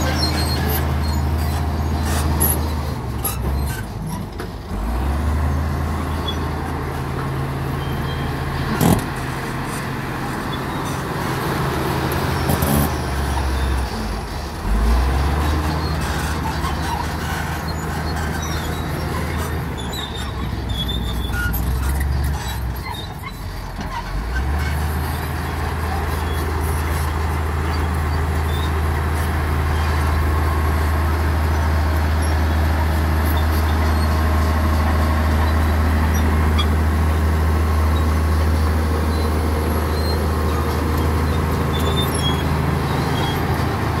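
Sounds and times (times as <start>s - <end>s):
bulldozer diesel engine under load: 0.0s - 44.0s.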